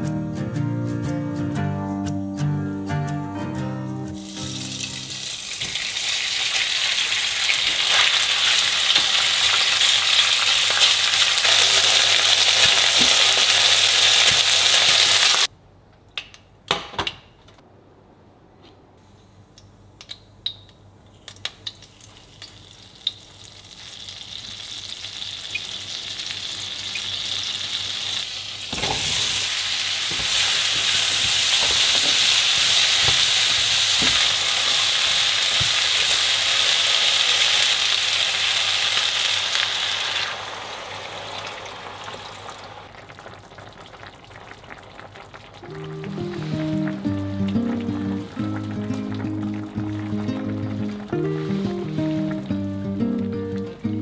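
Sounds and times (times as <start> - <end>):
food sizzling in oil: 4.2 - 15.5, 21.6 - 53.6.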